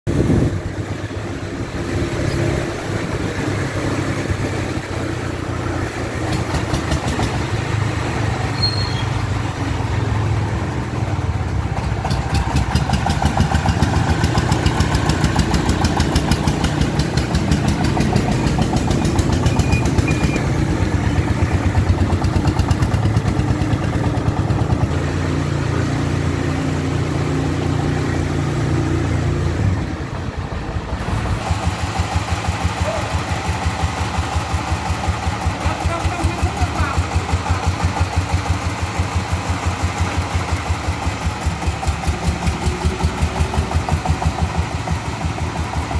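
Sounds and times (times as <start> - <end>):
diesel engine chugging: 0.1 - 45.9.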